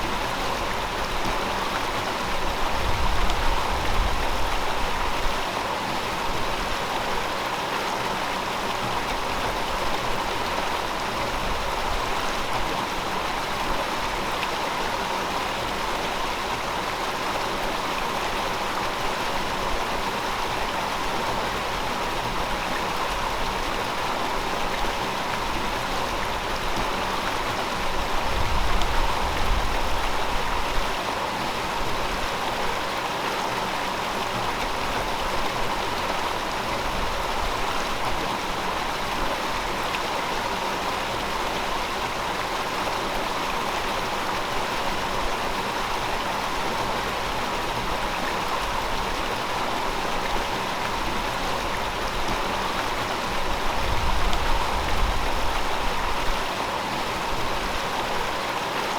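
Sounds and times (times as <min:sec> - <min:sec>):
river water flowing over stones: 0:00.0 - 0:58.9.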